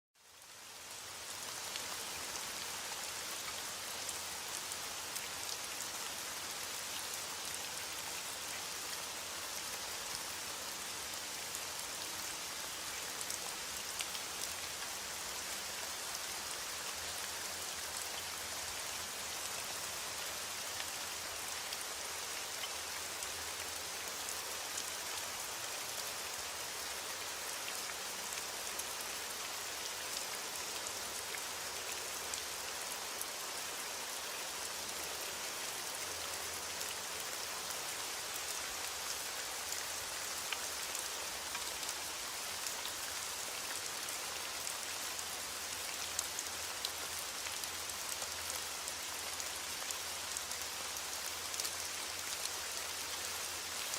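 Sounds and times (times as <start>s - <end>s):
rain falling: 0.2s - 53.9s.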